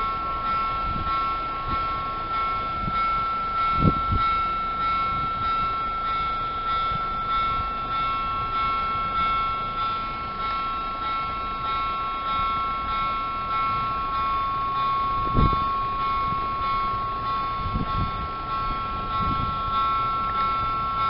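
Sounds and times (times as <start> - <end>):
two-tone electronic warning bell: 0.0 - 21.0.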